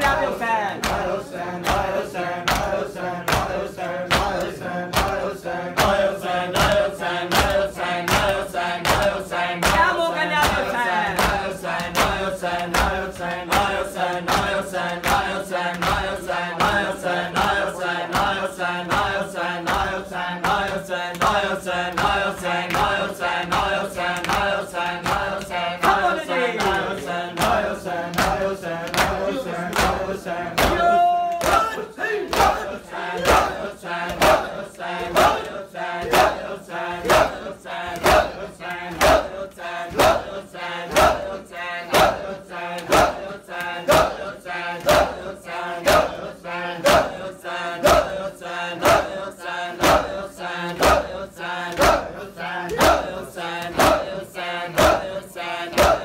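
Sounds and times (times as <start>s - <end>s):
men chanting in unison: 0.0s - 56.0s
hands slapping chests: 0.8s - 41.2s, 41.9s - 44.2s, 49.8s - 52.1s, 52.7s - 54.1s.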